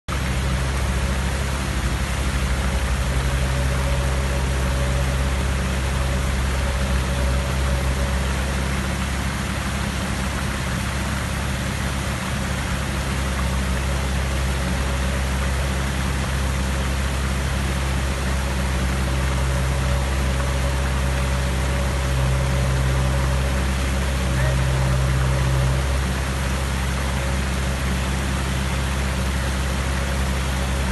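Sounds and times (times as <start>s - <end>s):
fountain water splashing into basin: 0.1s - 30.9s
low mechanical hum: 0.1s - 30.9s.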